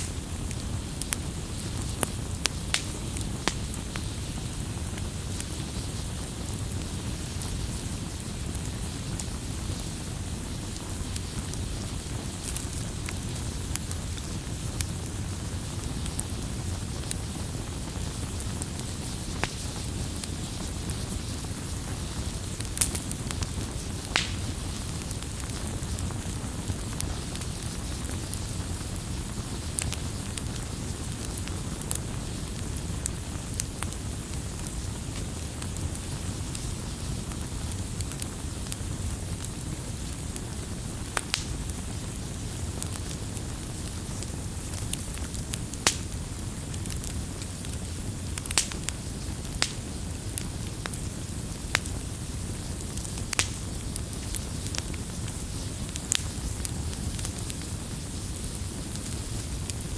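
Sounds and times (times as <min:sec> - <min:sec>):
fire popping and crackling: 0:00.0 - 0:59.9
firewood burning with hiss: 0:00.0 - 0:59.9.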